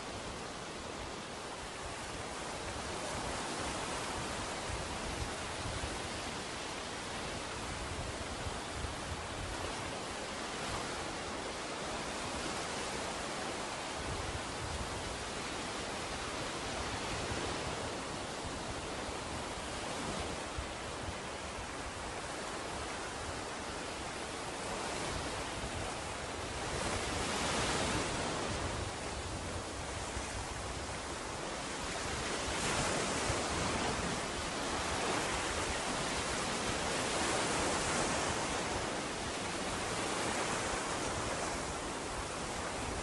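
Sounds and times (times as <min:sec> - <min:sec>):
waves breaking on beach: 0:00.0 - 0:43.0.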